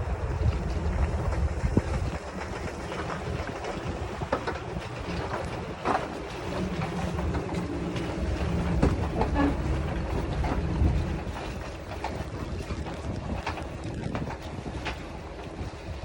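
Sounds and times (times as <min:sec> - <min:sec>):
boat engine running: 0:00.0 - 0:16.0
wind on microphone: 0:00.0 - 0:16.0.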